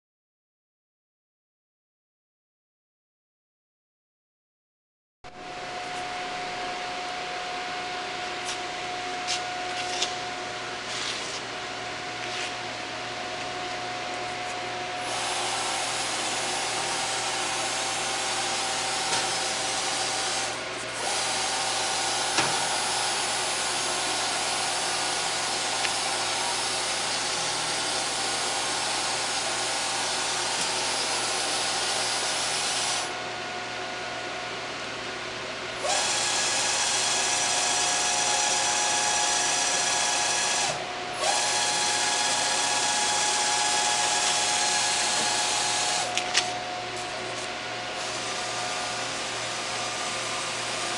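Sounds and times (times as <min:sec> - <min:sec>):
mill motor whine with hiss: 0:05.4 - 0:34.8, 0:35.7 - 0:50.9.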